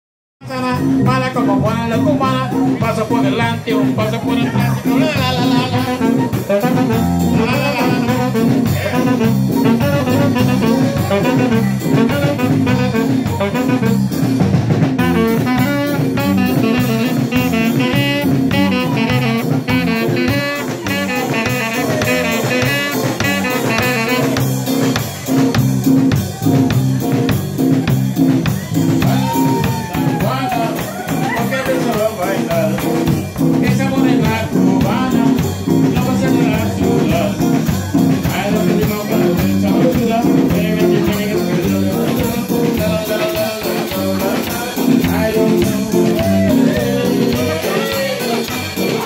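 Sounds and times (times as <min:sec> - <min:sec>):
drum kit beat: 0:00.4 - 0:49.0
electric guitar: 0:00.4 - 0:49.0.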